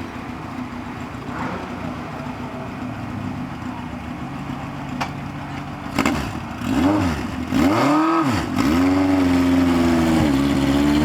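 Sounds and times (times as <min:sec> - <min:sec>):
race car engine idling and revving: 0:00.0 - 0:11.0.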